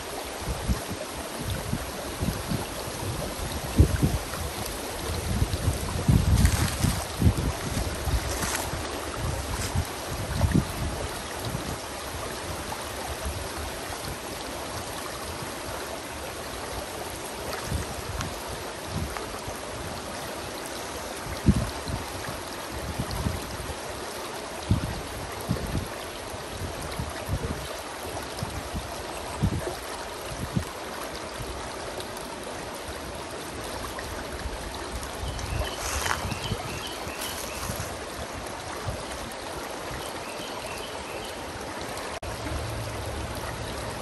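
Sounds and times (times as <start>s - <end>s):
creek water babbling over rocks: 0.0s - 44.0s.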